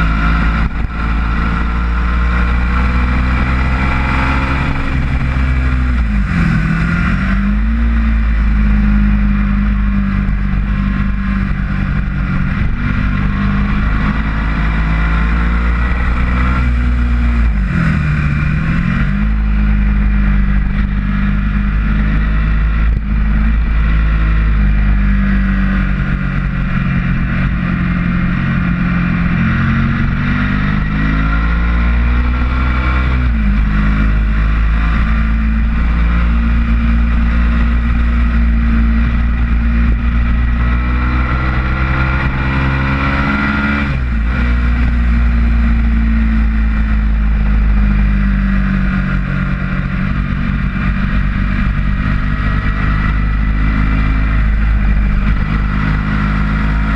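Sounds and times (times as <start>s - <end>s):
motorcycle engine running hard: 0.0s - 56.9s
wind rush over microphone: 0.0s - 56.9s.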